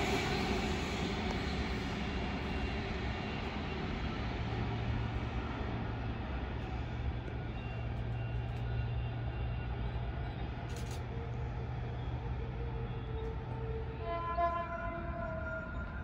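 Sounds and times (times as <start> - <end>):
electric train rumbling: 0.0 - 16.0
outdoor noise: 0.0 - 16.0.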